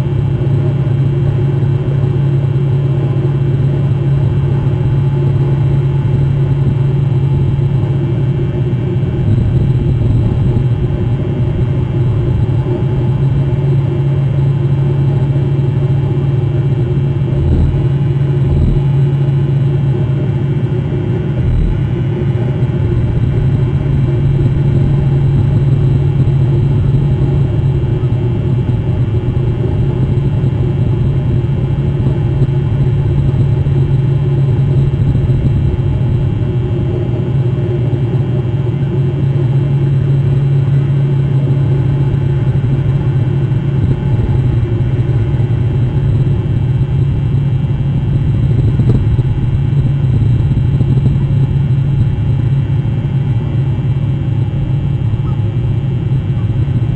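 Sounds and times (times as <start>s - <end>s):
engine rumbling: 0.0s - 56.9s.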